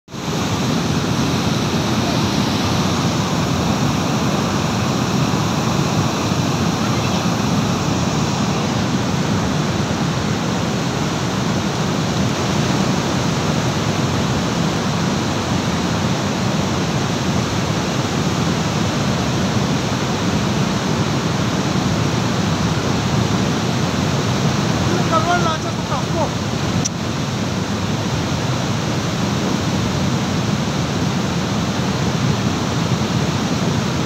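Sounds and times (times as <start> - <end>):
water rushing over rocks: 0.1 - 34.0.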